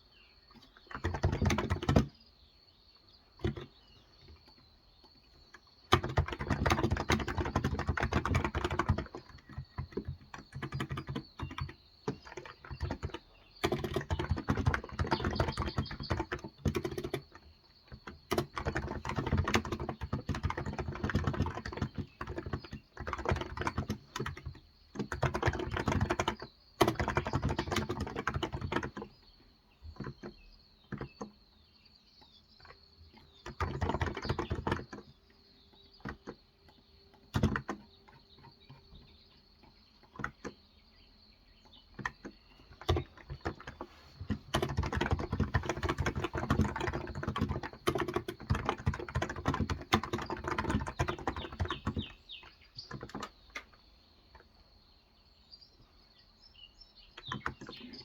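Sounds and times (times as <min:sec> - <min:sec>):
typing on a keyboard: 0:00.5 - 0:02.2, 0:03.3 - 0:31.5, 0:32.2 - 0:40.7, 0:41.6 - 0:54.6, 0:57.2 - 0:58.0.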